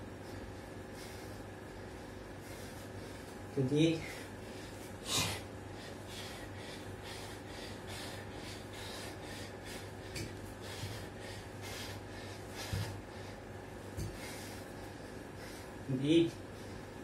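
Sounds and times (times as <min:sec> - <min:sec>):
man breathing heavily: 0:00.0 - 0:17.0.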